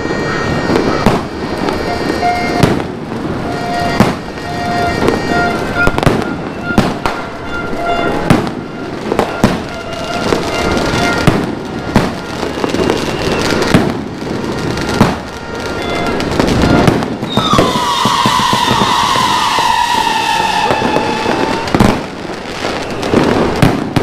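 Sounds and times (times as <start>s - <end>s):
din of explosions: 0.0s - 24.0s
firework bangs: 0.0s - 24.0s
firework whistle falling in pitch: 0.0s - 24.0s.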